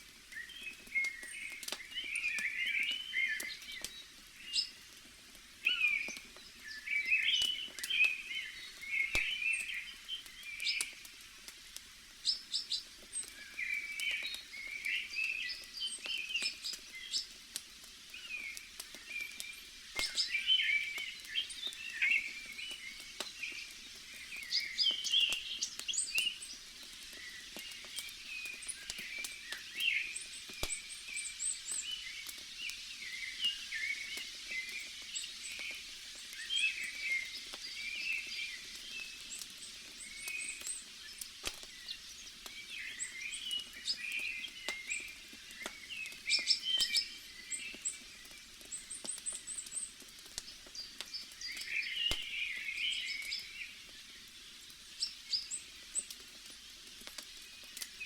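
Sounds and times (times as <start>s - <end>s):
small birds chirping: 0.0s - 58.0s
wood fire crackling and popping: 0.0s - 58.0s.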